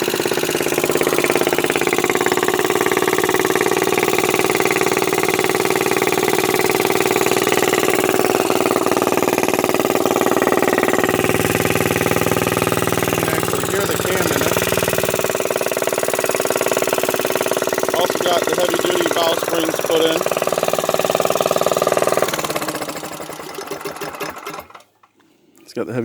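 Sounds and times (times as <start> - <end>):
small engine idling: 0.0 - 25.2.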